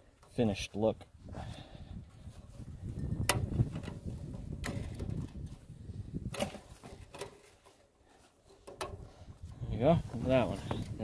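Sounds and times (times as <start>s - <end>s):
low rustling handling noise: 2.0s - 11.0s.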